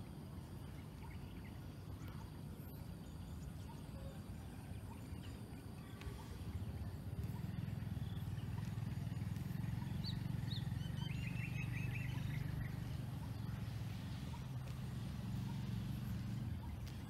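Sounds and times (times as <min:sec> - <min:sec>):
steady low rumble: 0:00.0 - 0:17.0
small bird chirping: 0:00.4 - 0:17.0.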